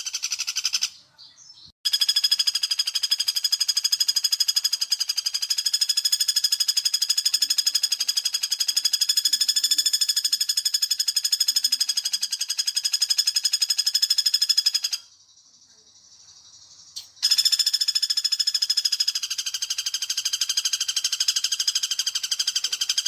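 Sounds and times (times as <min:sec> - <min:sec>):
woodpecker trilling rattle: 0:00.0 - 0:01.0, 0:01.9 - 0:23.0.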